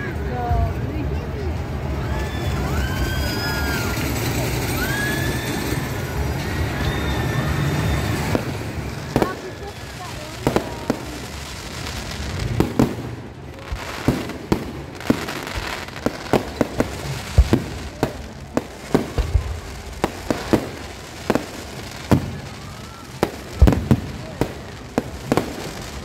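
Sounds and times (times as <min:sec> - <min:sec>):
fireworks bursting with sharp bangs: 0:01.7 - 0:26.0.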